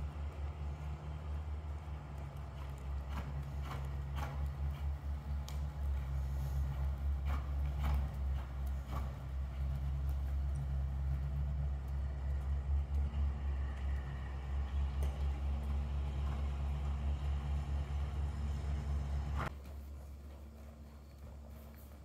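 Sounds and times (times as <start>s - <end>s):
low mechanical rumble: 0.0s - 22.0s.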